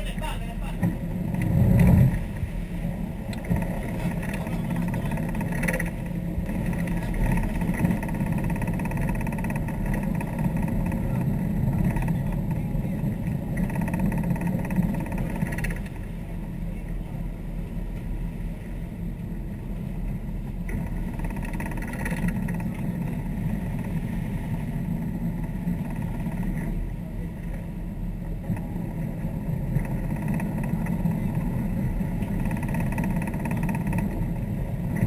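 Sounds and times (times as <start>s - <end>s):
boat engines droning: 0.0s - 35.0s.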